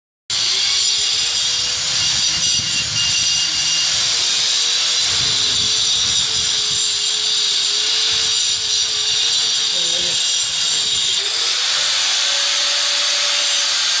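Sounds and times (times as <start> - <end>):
angle grinder cutting brick: 0.3 - 14.0.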